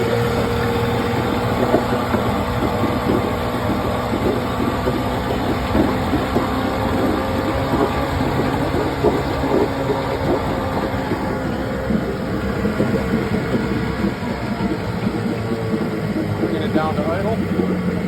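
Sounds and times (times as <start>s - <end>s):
engine pops: 0.0s - 18.0s
outboard motor running: 0.0s - 18.0s.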